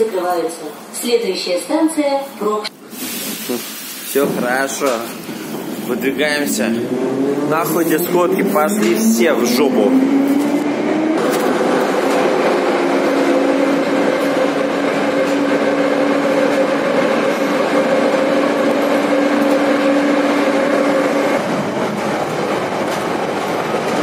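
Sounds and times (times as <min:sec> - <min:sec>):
train whine: 0:02.7 - 0:24.0
wheels rumbling on rails: 0:04.2 - 0:24.0.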